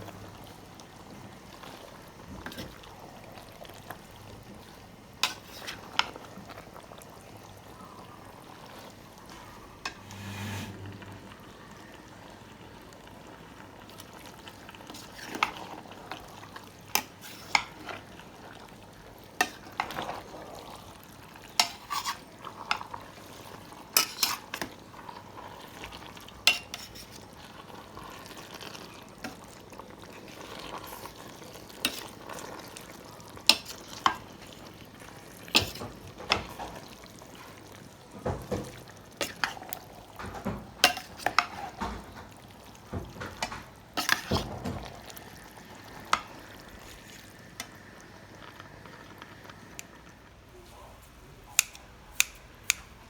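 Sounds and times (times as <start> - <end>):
utensil scraping and clanking in pot: 1.5 - 3.8, 4.5 - 6.6, 8.7 - 11.5, 14.2 - 49.9.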